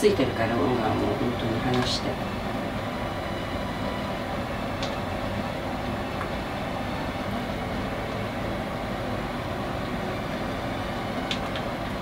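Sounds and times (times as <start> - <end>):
kitchen mechanical hum: 0.0 - 12.0.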